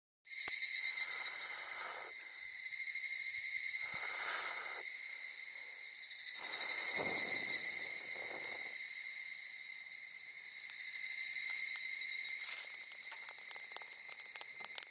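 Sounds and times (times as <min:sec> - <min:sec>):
insects trilling: 0:00.3 - 0:14.9.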